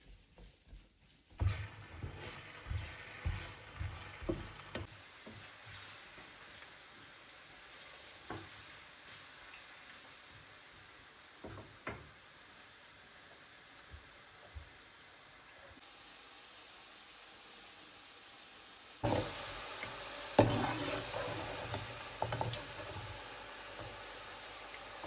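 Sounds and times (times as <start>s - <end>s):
food sizzling in a frying pan: 1.4s - 25.0s.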